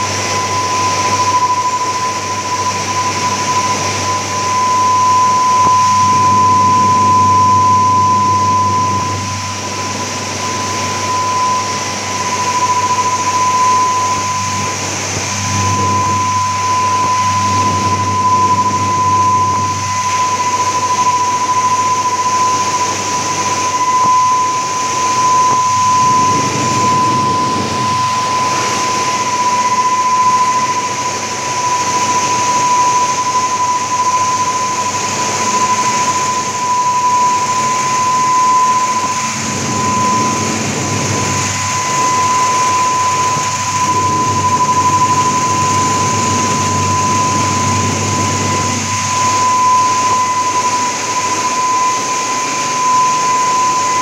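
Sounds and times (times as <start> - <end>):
high-pitched whine: 0.0 - 54.0
industrial machine noise: 0.0 - 54.0.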